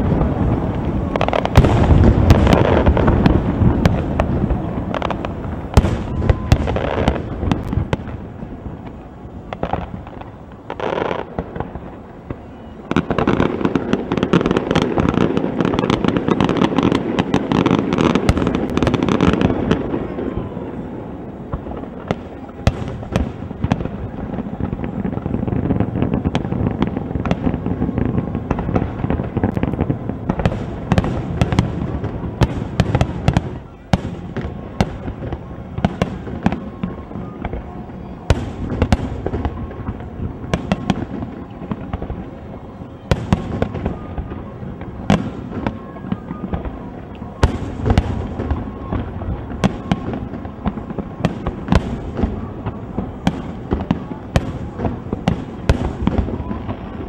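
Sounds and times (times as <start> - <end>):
fireworks booming and crackling: 0.0 - 57.0.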